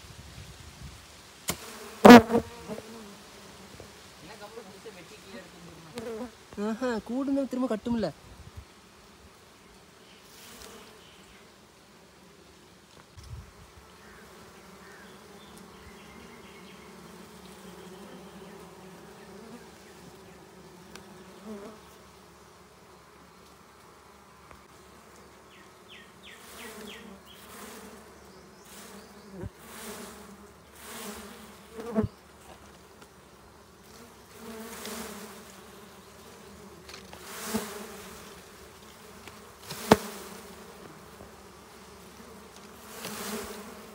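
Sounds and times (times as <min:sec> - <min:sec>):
bees buzzing: 0:01.5 - 0:08.0, 0:08.7 - 0:43.9.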